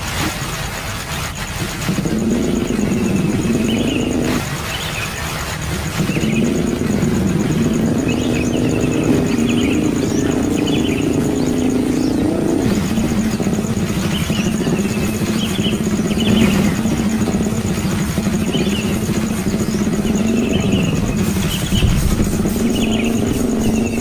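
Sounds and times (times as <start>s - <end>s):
motor engine running: 0.3s - 24.0s
birds chirping: 1.1s - 24.0s.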